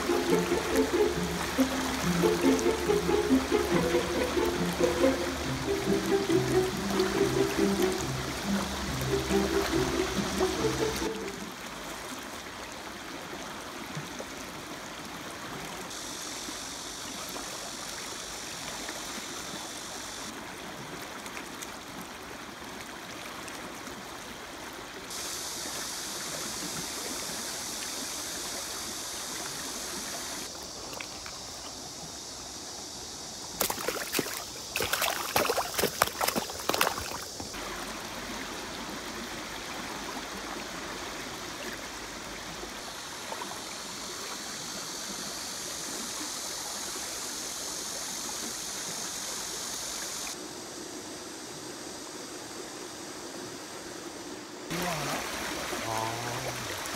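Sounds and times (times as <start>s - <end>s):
river water rushing: 0.0s - 32.4s, 33.5s - 50.4s, 54.7s - 56.9s.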